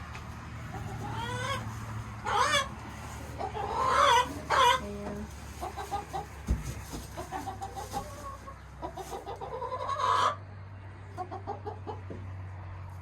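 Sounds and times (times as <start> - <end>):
chickens clucking: 0.0 - 12.8.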